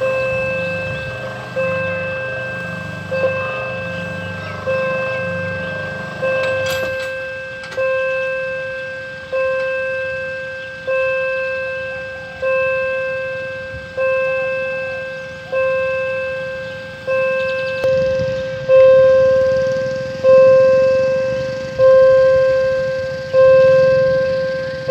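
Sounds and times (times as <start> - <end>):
level crossing bell ringing: 0.0 - 24.9.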